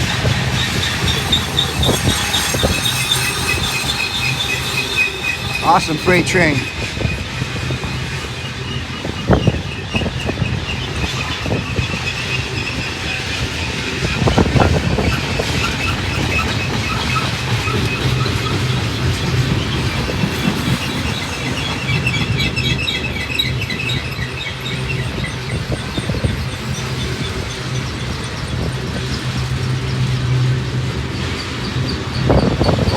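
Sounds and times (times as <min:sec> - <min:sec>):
freight train wheels rumbling: 0:00.0 - 0:32.9
high-pitched wheel squeal: 0:00.3 - 0:30.2.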